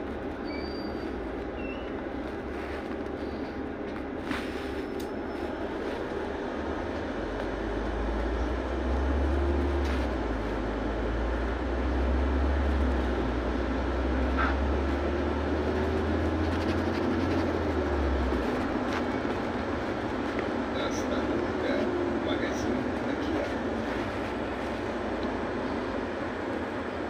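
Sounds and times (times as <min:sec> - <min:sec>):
bus ride rumble: 0:00.0 - 0:27.0.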